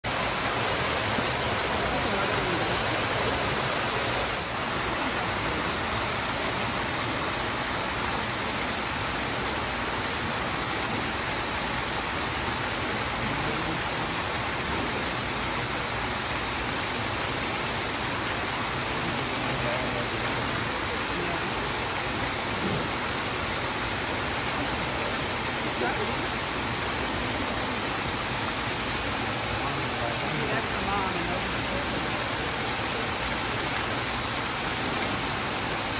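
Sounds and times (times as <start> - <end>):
waterfall rushing into pool: 0.0 - 35.9.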